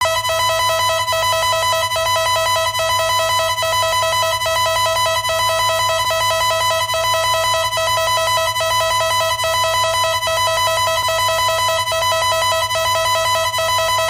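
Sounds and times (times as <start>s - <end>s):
electronic alert alarm tones: 0.0s - 14.0s.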